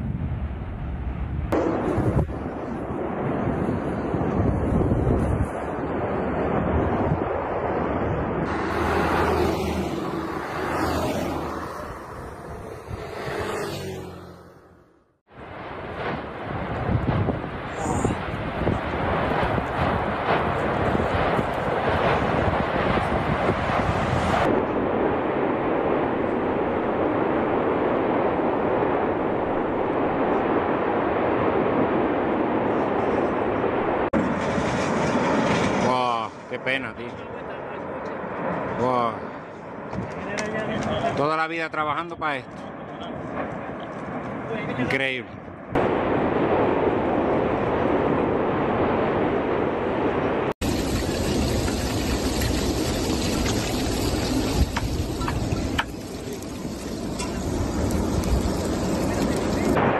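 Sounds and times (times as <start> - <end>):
volcanic eruption roar: 0.0 - 59.9.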